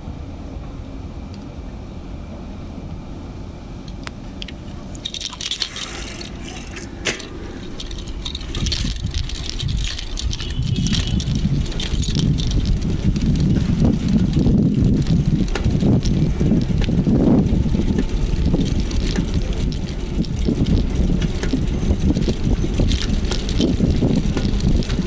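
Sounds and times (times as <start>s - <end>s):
bicycle rumble: 3.8s - 25.0s
bike parts rattling: 4.3s - 25.0s.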